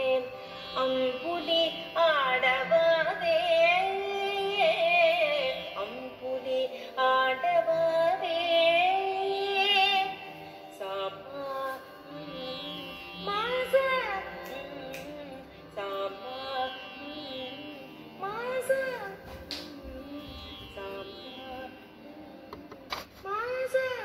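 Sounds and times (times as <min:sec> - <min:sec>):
person singing ornamented melody: 0:00.0 - 0:24.0.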